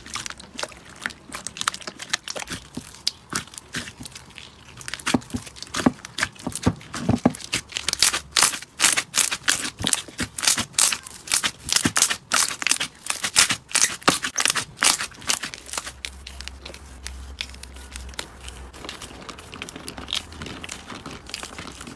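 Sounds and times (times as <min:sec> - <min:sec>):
slime crackling and popping: 0:00.0 - 0:21.9.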